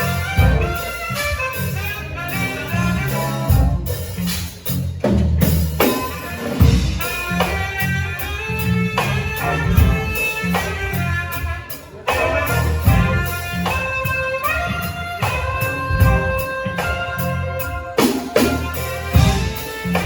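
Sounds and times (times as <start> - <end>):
drum kit: 0.0 - 20.0
jazzy band music: 0.0 - 20.0.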